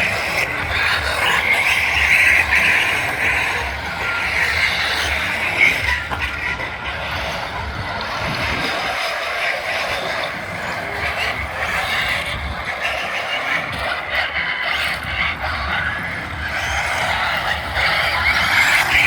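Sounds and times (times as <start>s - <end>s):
radio-controlled trucks driving: 0.0s - 19.0s.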